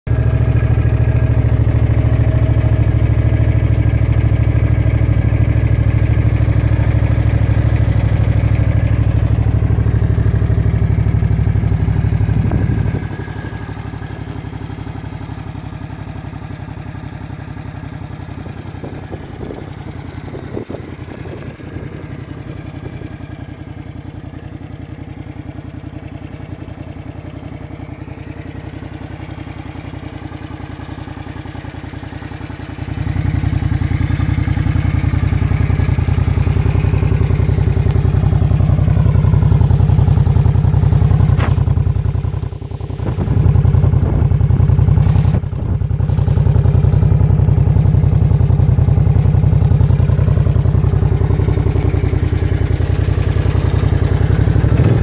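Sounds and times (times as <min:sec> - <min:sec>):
motorcycle engine idling: 0:00.1 - 0:55.0.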